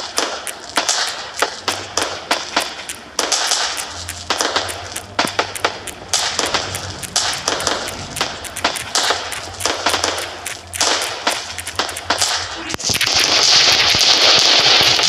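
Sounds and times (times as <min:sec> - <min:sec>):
fireworks banging: 0:00.0 - 0:15.0
fireworks crackling and hissing: 0:00.0 - 0:15.0.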